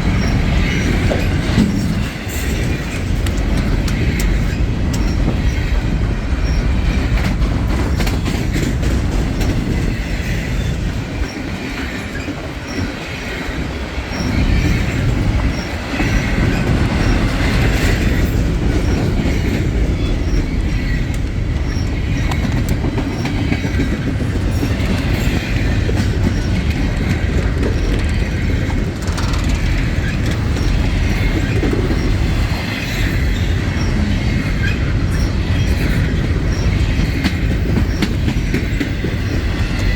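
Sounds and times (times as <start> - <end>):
freight train cars rumbling: 0.0 - 39.9
train wheel squeal: 0.0 - 39.9
wheels clacking over rail joints: 0.0 - 39.9.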